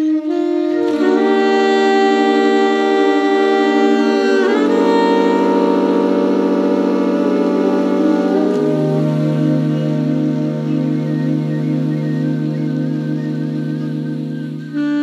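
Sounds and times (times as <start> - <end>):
ambient music chord: 0.0 - 15.0.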